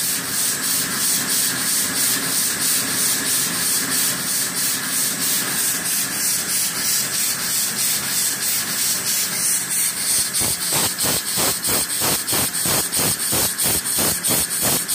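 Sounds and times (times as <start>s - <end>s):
steam engine hissing exhaust puffs: 0.0s - 14.9s.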